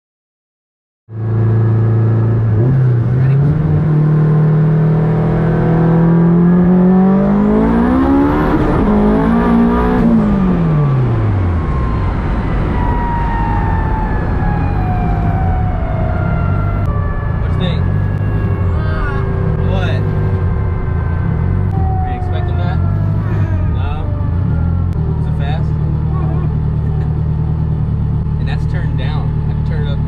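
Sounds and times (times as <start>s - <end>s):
car engine accelerating: 1.1s - 30.0s
road noise: 1.1s - 30.0s.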